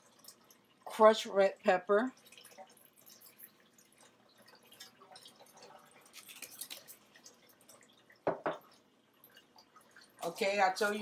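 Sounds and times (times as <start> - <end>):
food crackling in a skillet: 2.0 - 11.0.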